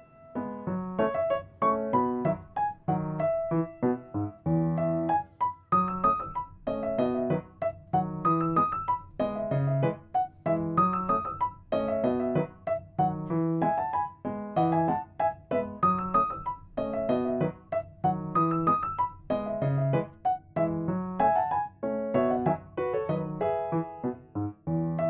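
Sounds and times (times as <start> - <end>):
bouncy piano music: 0.0 - 25.0.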